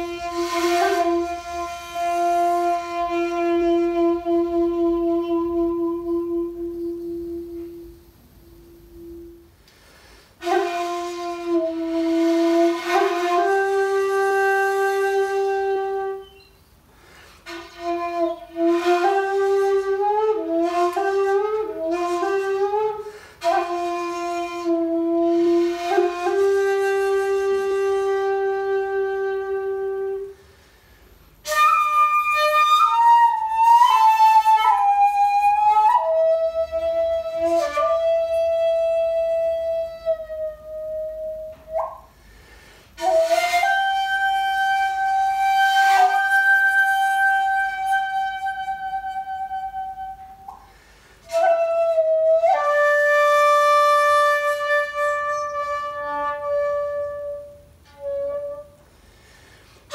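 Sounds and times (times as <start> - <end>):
bamboo flute playing: 0.0 - 9.6, 10.4 - 30.6, 31.4 - 59.0.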